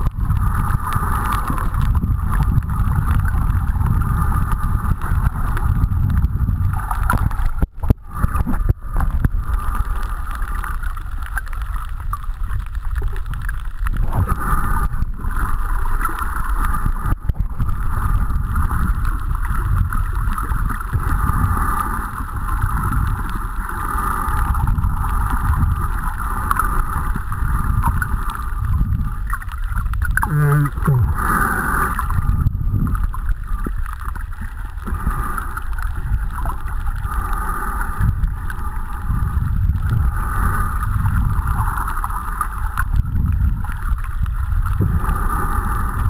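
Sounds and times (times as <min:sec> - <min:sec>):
underwater rumble of moving water: 0:00.0 - 0:46.0.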